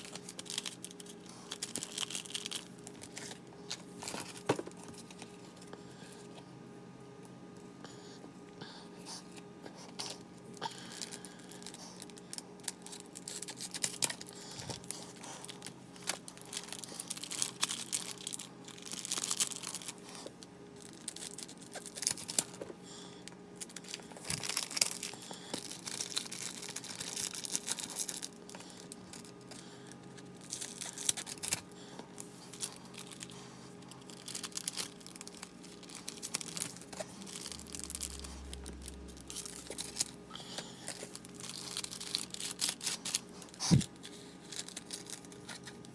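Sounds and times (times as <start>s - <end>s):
foil wrapper crinkling and tearing: 0.0s - 5.6s, 10.8s - 22.7s, 23.6s - 45.9s.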